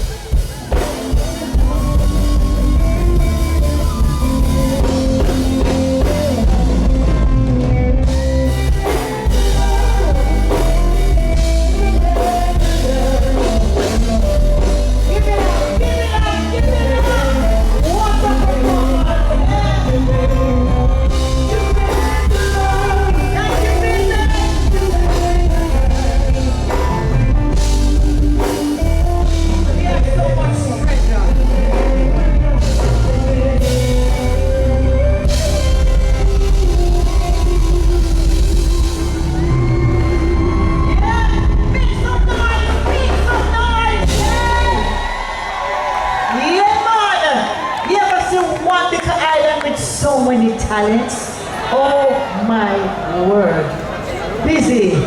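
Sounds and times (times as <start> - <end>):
person singing: 0.0 - 45.3
live band music: 0.0 - 52.3.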